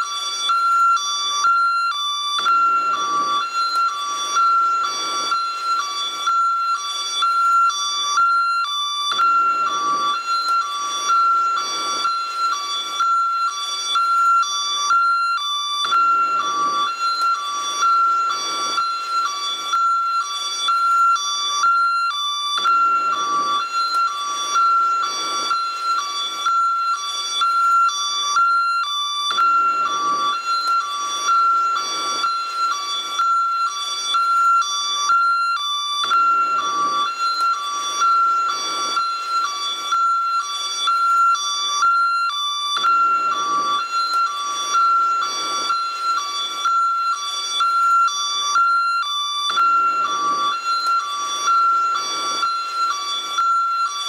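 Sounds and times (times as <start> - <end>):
ambulance two-tone siren: 0.0 - 54.0.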